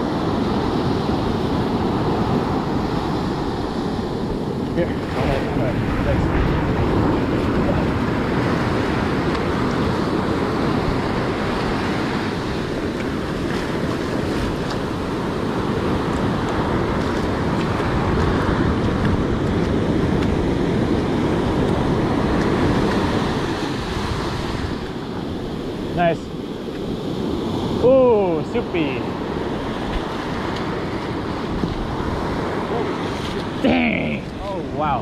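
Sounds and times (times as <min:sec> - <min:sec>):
wind noise on microphone: 0:00.0 - 0:33.6
ocean surf on beach: 0:00.0 - 0:35.0.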